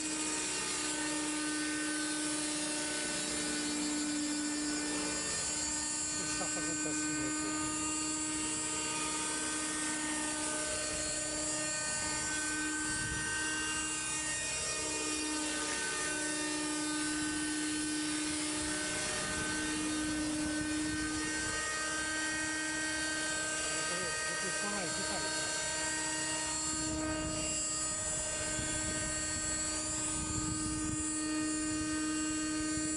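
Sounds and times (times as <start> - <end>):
rc helicopter engine whine: 0.0 - 32.9.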